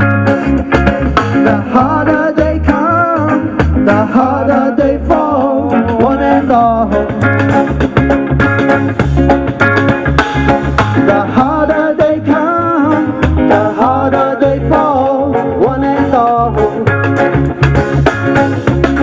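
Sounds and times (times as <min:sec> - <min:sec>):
bending lead guitar melody: 0:00.0 - 0:19.0
live band playing: 0:00.0 - 0:19.0.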